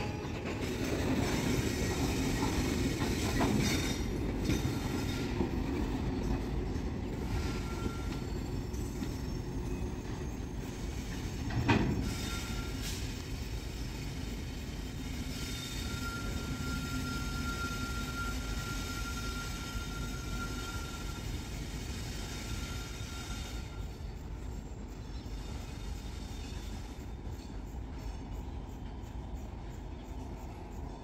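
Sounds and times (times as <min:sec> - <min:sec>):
train wagons rumbling: 0:00.0 - 0:31.0.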